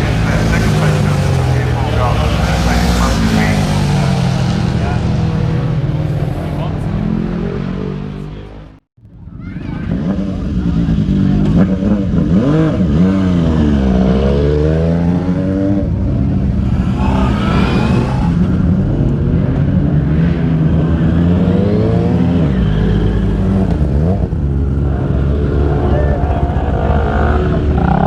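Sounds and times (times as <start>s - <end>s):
motorcycle engines revving past: 0.0s - 8.8s, 9.7s - 28.0s.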